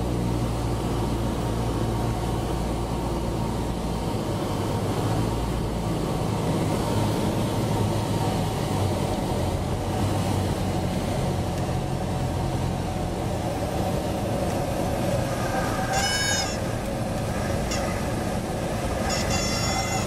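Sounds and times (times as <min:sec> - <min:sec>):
airplane engine drone in cabin: 0:00.0 - 0:20.0.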